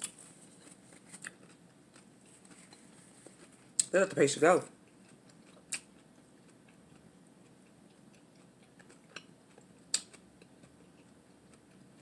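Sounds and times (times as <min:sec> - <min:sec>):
chewing lettuce wrap: 0:00.0 - 0:03.9, 0:04.8 - 0:12.0.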